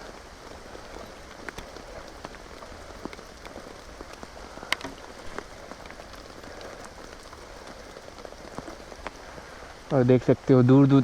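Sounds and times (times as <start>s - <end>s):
rain falling: 0.0s - 11.0s
raindrops tapping near microphone: 0.0s - 11.0s.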